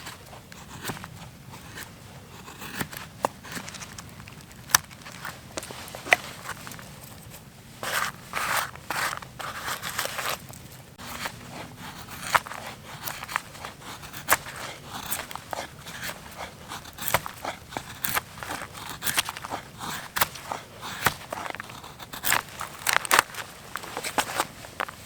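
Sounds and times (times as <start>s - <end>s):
twigs crunching and snapping: 0.0s - 25.0s.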